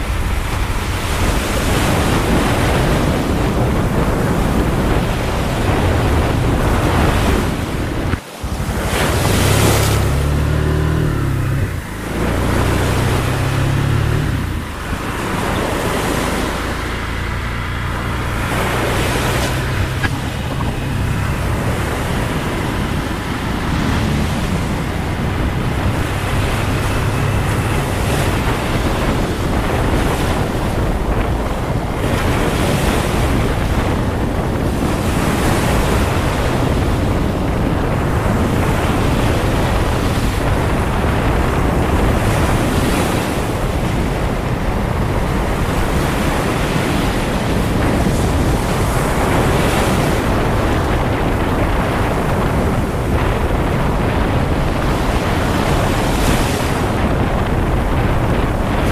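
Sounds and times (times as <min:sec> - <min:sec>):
motorcycle engine droning: 0:00.0 - 0:58.9
wind rushing over microphone: 0:00.0 - 0:58.9.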